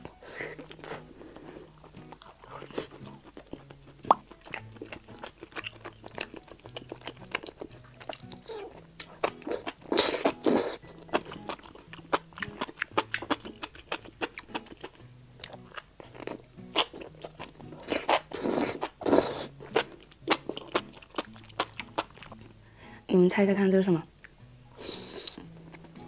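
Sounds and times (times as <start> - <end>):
slurping: 0.1 - 14.9, 15.5 - 22.5, 24.8 - 25.9
wet chewing clicks and smacks: 0.6 - 22.5.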